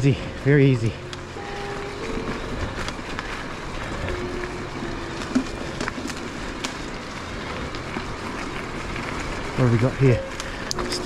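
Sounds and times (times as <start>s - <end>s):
bike tyres on rough trail: 0.0s - 11.0s
stones and bike rattling: 0.0s - 11.0s.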